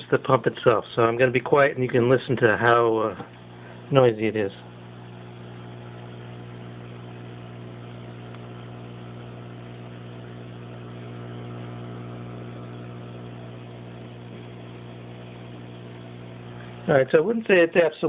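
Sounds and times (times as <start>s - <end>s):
aquarium air pump humming: 0.0s - 18.0s.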